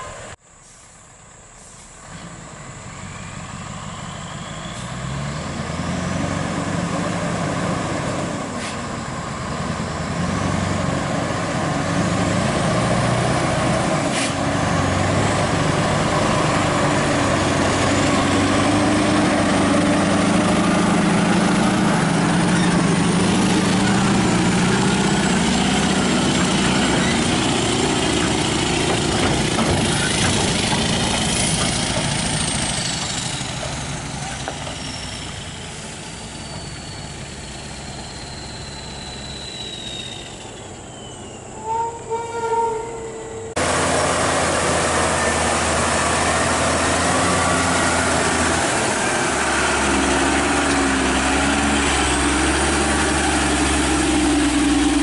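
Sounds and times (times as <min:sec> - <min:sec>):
truck diesel engine pulling: 0:00.0 - 0:55.0.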